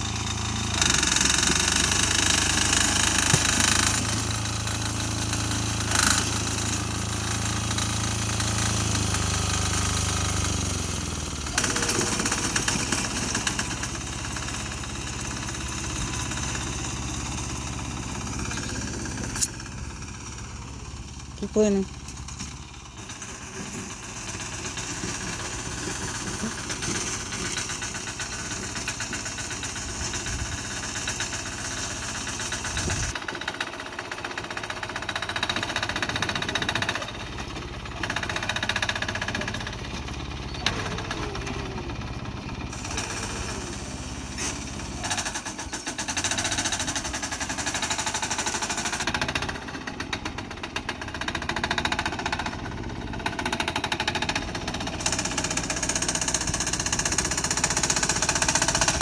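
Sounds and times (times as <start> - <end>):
small diesel engine knocking: 0.0 - 59.0.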